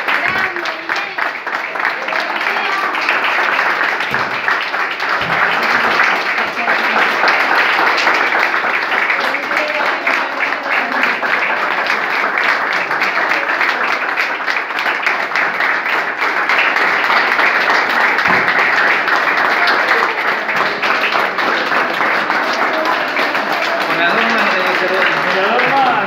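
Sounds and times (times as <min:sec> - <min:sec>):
crowd applauding: 0:00.0 - 0:26.0.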